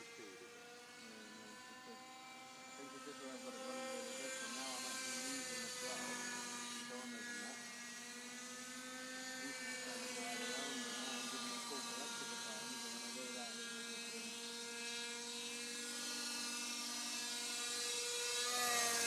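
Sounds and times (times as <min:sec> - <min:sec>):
model helicopter whining overhead: 0:00.0 - 0:19.0.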